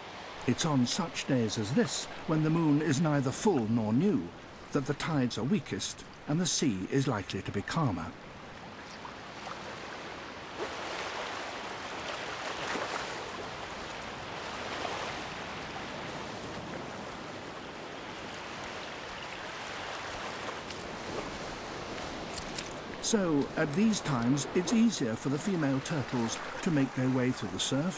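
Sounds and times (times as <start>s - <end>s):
surf washing on beach: 0.0s - 27.9s.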